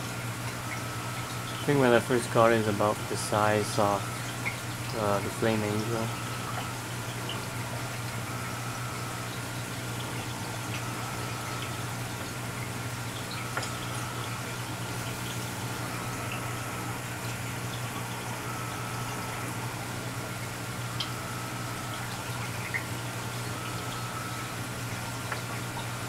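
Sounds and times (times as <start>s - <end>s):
pump hum: 0.0s - 26.0s
water trickling and bubbling: 0.0s - 26.0s.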